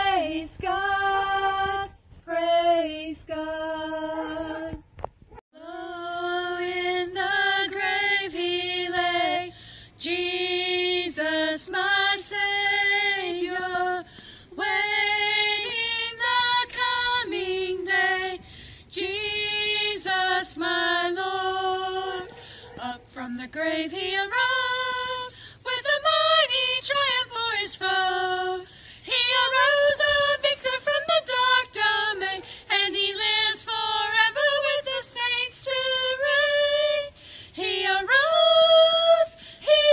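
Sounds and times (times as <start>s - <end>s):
woman singing a hymn: 0.0s - 4.8s, 5.6s - 39.9s.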